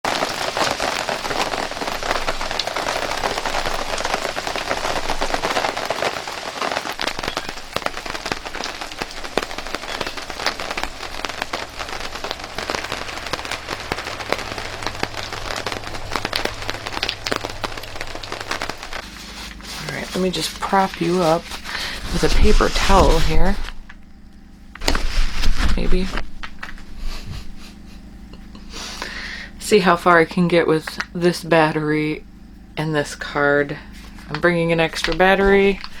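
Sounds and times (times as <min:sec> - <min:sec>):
rain pattering: 0:00.0 - 0:36.0
low steady hum: 0:00.1 - 0:36.0.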